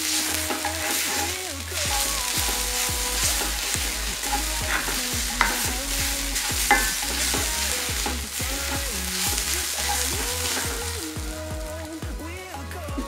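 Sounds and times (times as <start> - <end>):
onions sizzling in a pan: 0.0 - 11.7.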